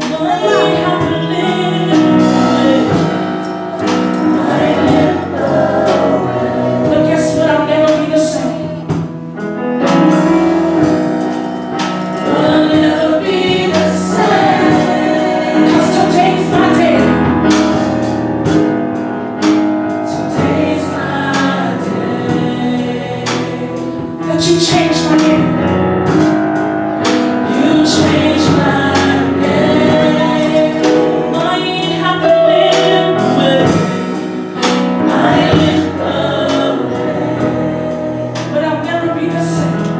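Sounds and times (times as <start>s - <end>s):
instruments and percussion: 0.0s - 37.8s
gospel choir singing: 0.0s - 39.9s.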